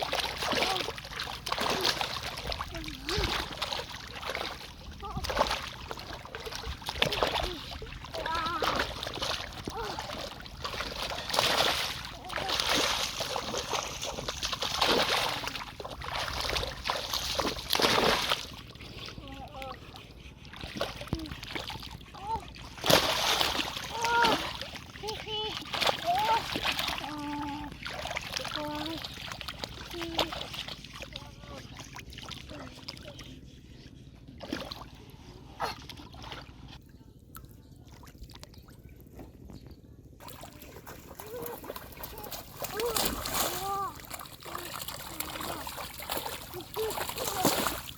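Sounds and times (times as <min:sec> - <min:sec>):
river water splashing: 0:00.0 - 0:19.1, 0:20.7 - 0:33.0, 0:40.2 - 0:47.9
steady low rumble: 0:00.0 - 0:47.9.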